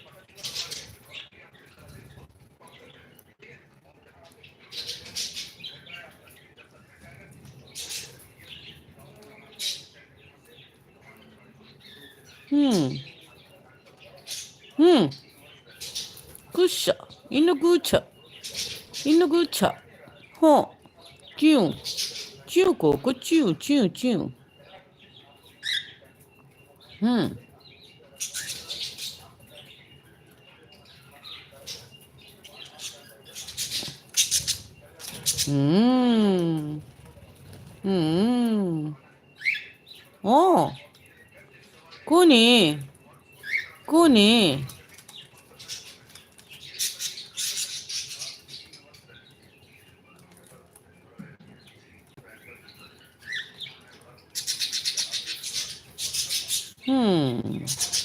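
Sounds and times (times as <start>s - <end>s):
parrot chirping and chattering: 4.5s - 6.4s, 7.4s - 10.0s, 11.6s - 19.6s, 20.2s - 23.6s, 24.4s - 58.0s.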